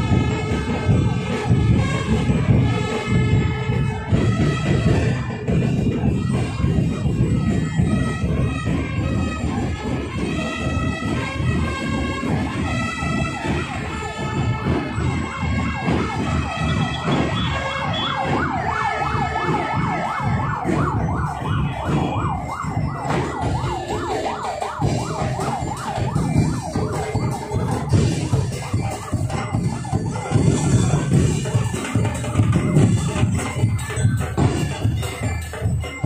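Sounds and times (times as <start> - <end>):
band music: 0.0 - 36.0
parade drumming: 0.0 - 36.0
siren yelping: 0.0 - 36.0.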